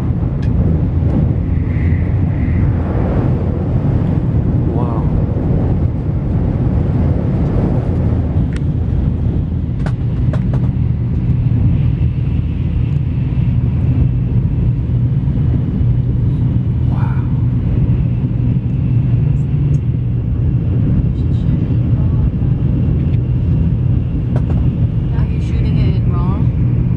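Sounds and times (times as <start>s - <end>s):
train rumble inside cabin: 0.0s - 26.9s.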